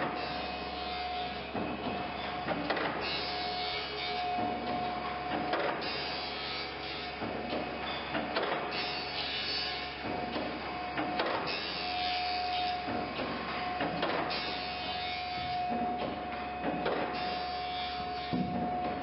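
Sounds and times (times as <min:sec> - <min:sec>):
machine whine: 0:00.0 - 0:19.0.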